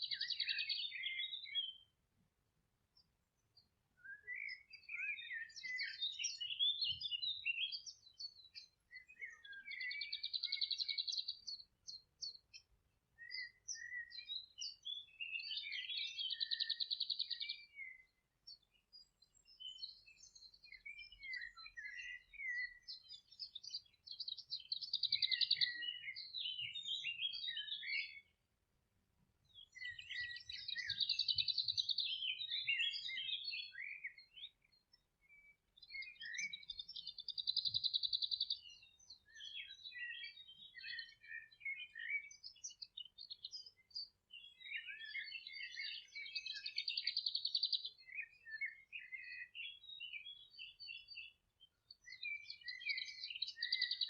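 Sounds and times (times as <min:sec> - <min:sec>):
songbirds trilling: 0:00.0 - 0:01.9, 0:03.0 - 0:28.5, 0:29.4 - 0:54.0.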